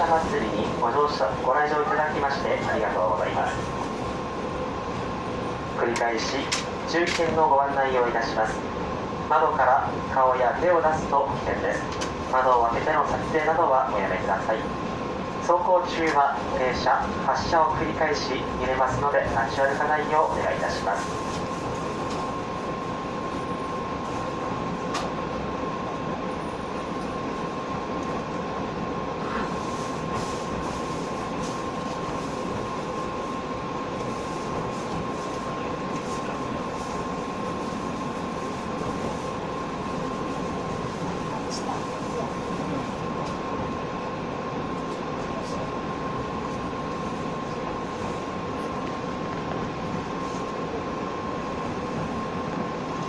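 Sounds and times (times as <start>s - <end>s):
thin steady whine: 0.0s - 53.0s
train interior rumble: 0.0s - 53.0s.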